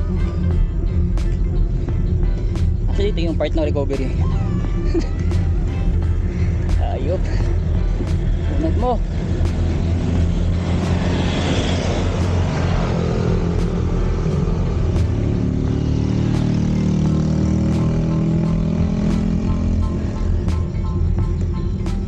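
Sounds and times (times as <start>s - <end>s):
vehicle rushing past: 0.0s - 21.8s
approaching vehicle engine: 0.0s - 22.0s.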